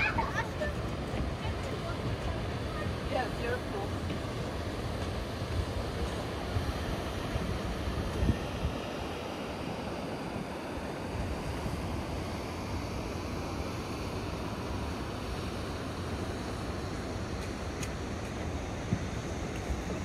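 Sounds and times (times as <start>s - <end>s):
waterfall rushing over rock: 0.0s - 20.0s
wind gusts on microphone: 0.0s - 20.0s.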